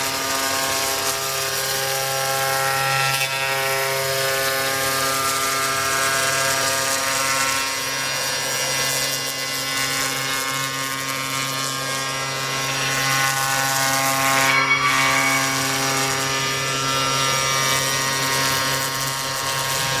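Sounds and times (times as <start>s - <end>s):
hiss of cutting foam: 0.0s - 20.0s
router spindle whine: 0.0s - 20.0s.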